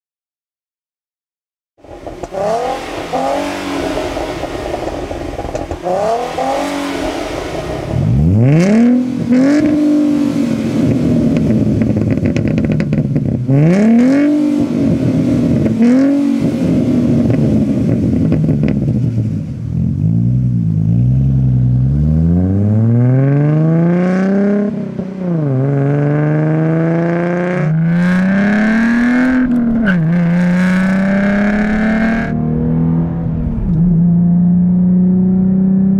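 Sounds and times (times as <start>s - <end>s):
car engine revving: 1.8s - 35.9s.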